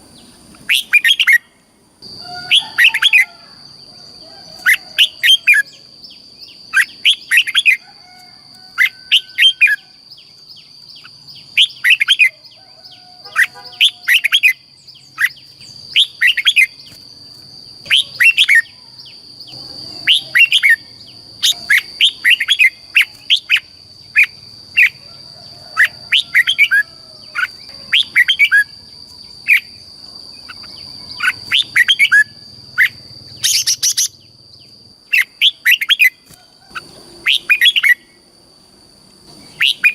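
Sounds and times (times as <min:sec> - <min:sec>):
bulbul singing: 0:00.0 - 0:07.9, 0:08.7 - 0:38.3, 0:39.3 - 0:39.9
steady high-pitched whine: 0:00.0 - 0:39.9.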